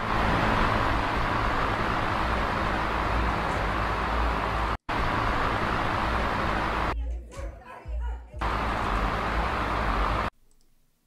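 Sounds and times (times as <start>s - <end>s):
electric fan air rush: 0.0s - 7.0s, 8.4s - 10.3s
low hum: 0.0s - 7.0s, 8.4s - 10.6s.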